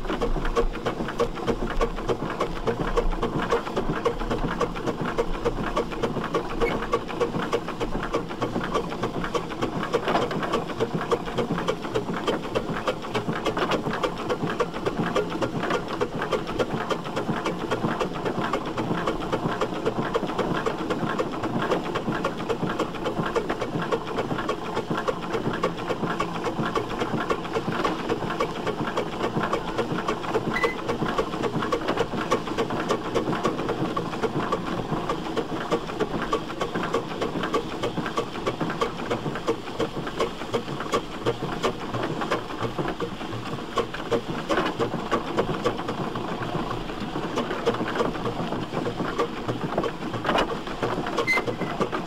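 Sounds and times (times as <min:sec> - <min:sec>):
steam traction engine running: 0:00.0 - 0:52.0.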